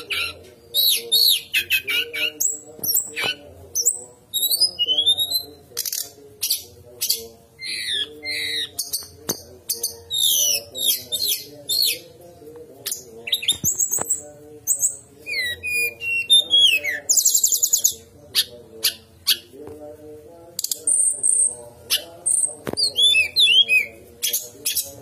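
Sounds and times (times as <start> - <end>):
songbird singing: 0.0 - 19.8, 20.6 - 25.0.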